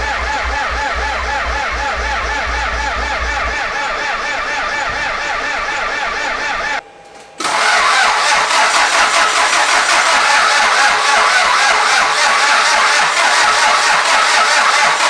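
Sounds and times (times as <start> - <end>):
rough engine running: 0.0 - 6.8, 7.4 - 15.0
engine cranking on starter: 0.0 - 15.0.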